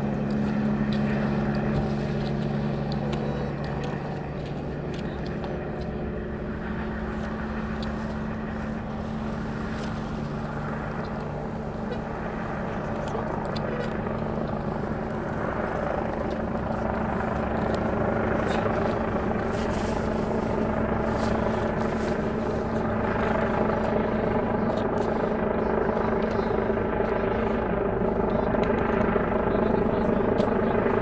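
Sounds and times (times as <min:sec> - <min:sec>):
helicopter flying overhead: 0:00.0 - 0:31.0.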